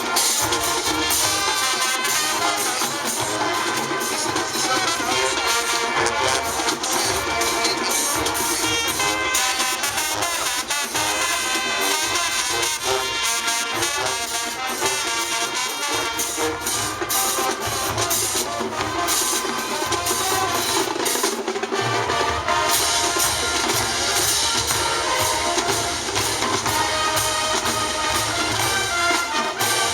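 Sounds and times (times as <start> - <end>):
marching band brass: 0.0 - 29.9
marching drums: 0.0 - 29.9.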